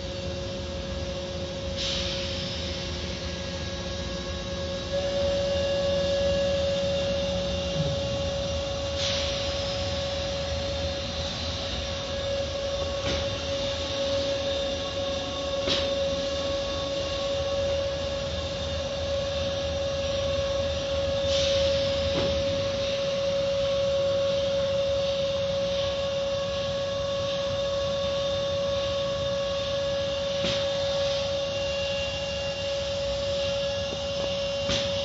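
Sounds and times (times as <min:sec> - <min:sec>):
car wash machine hum: 0:00.0 - 0:35.0.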